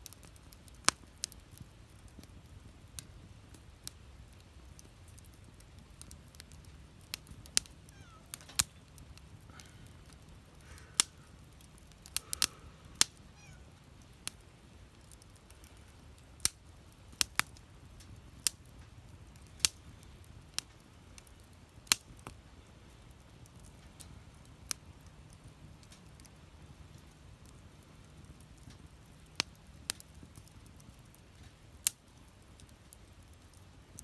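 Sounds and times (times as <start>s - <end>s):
wood fire popping and crackling: 0.0s - 34.0s.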